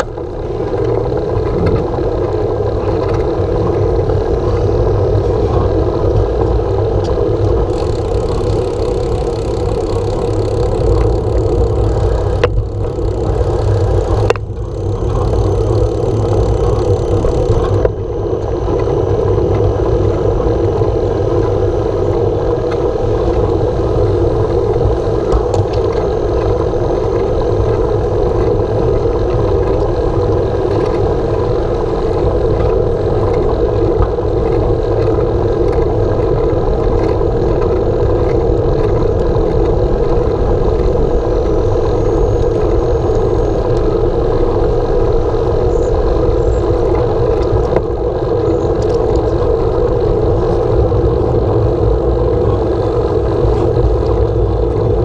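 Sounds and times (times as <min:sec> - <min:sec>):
bicycle tyres on tarmac: 0:00.0 - 0:55.0.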